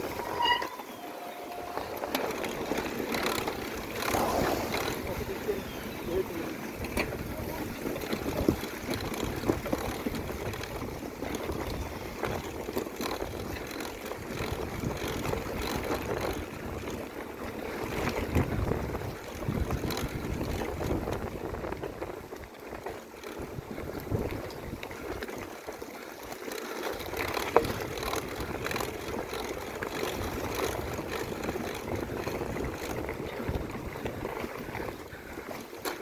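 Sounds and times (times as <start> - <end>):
bike knocks and rattles: 0.0 - 25.5, 26.2 - 36.0
wind buffeting microphone: 0.0 - 25.9, 27.0 - 36.0
bike tyres rumbling on trail: 0.0 - 36.0.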